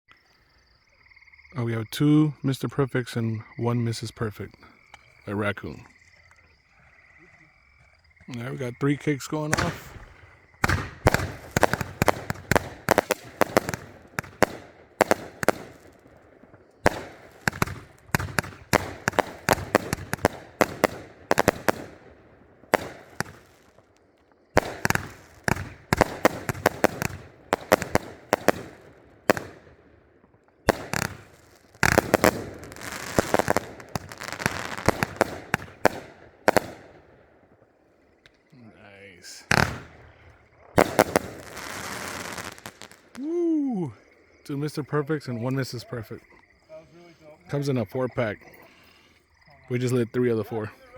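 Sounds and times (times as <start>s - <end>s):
fireworks barrage of shots and bursts: 7.3s - 38.2s, 39.0s - 50.9s.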